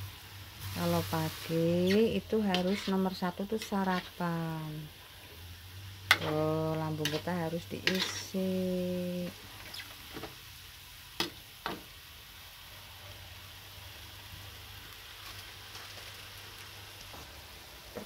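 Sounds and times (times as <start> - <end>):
beans sizzling in a wok: 0.0 - 18.0.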